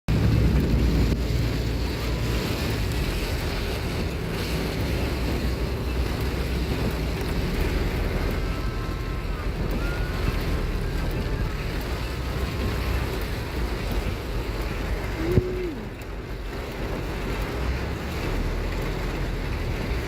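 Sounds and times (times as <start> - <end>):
heavy rain and floodwater rushing: 0.1 - 20.0
wind buffeting microphone: 0.1 - 20.0.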